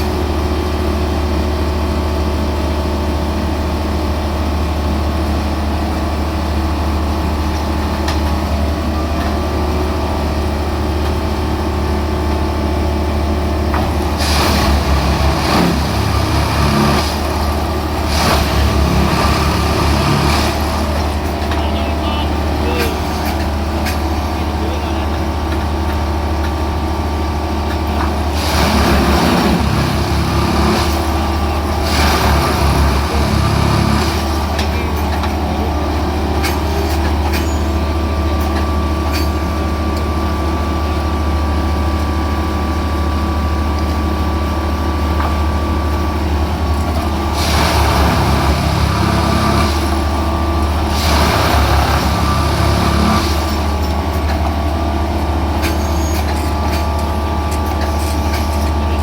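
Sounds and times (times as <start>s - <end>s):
heavy engine drone: 0.0s - 59.0s
hissing rough work noise: 0.0s - 59.0s.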